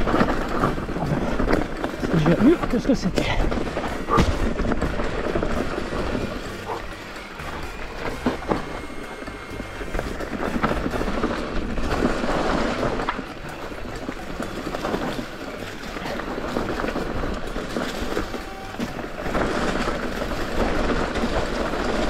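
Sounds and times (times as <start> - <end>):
tyres crunching over leaves: 0.0 - 22.0.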